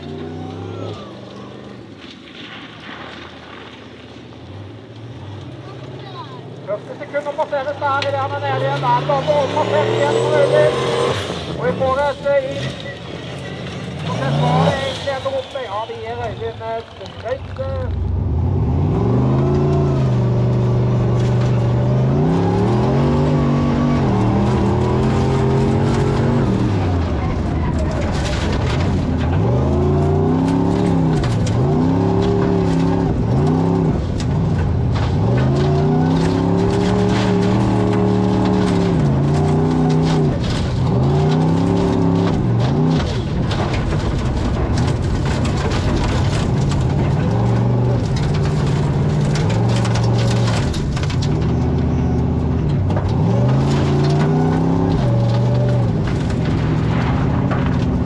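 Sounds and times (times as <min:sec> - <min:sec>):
buggy engine revving: 0:00.0 - 0:03.0, 0:04.6 - 0:58.0.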